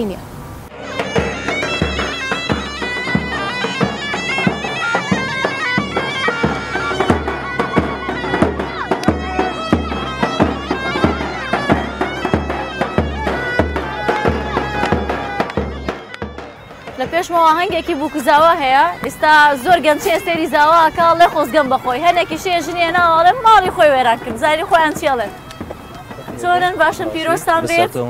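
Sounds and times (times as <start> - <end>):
steady low drum beat: 0.7 - 27.2
shawm playing folk melody: 0.7 - 28.0.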